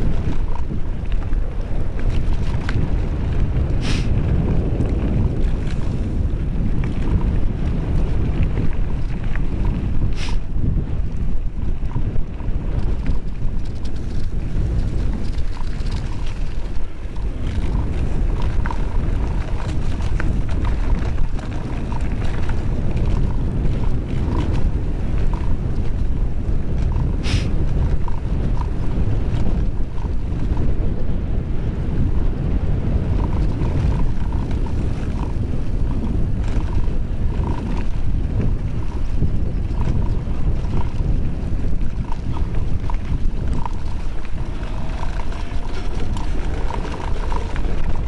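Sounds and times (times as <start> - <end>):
bike ticks and rattles: 0.0 - 48.0
wind buffeting microphone: 0.0 - 48.0.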